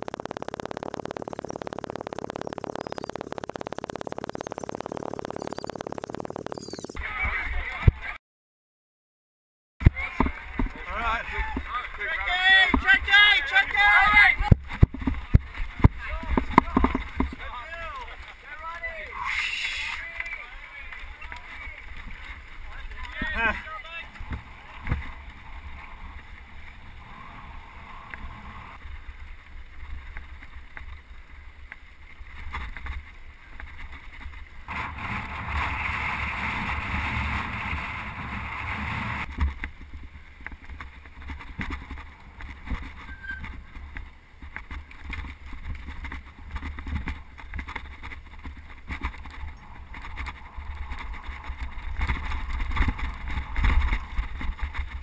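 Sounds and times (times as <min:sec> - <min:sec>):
wind rumbling on microphone: 0:09.9 - 0:55.0.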